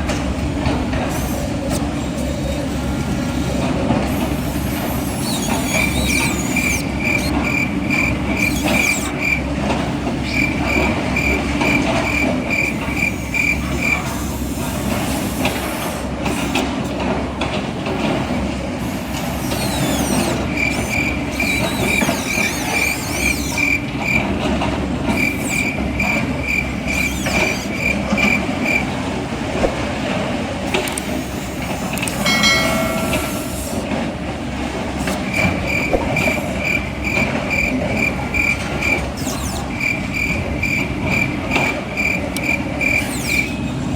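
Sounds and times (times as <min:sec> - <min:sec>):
running machinery din: 0:00.0 - 0:43.9.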